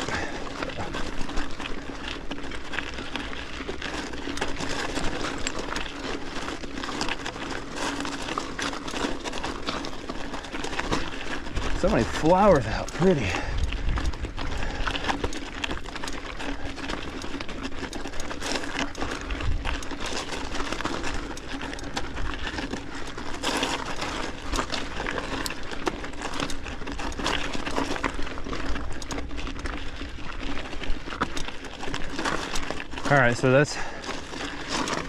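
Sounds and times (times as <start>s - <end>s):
bike rattling: 0.0s - 35.0s
tyres crunching over gravel: 0.0s - 35.0s.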